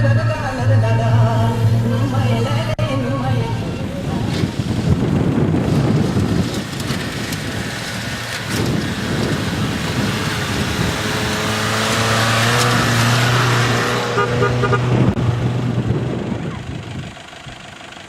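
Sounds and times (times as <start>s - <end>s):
off-road vehicle engine rumbling: 0.0s - 18.0s.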